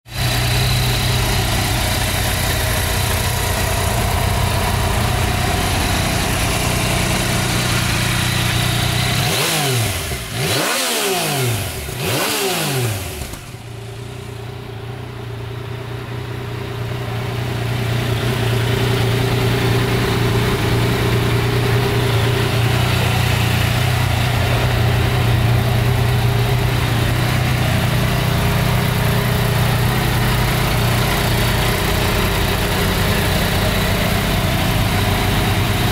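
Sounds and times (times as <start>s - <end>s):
motorcycle engine idling and revving: 0.1s - 35.9s.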